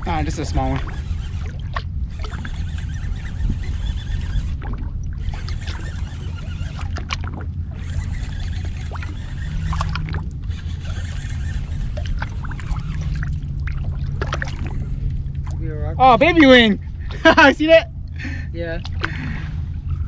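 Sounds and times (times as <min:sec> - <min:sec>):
small waves lapping against a hull: 0:00.0 - 0:20.0
wind rumble on microphone: 0:00.0 - 0:20.0.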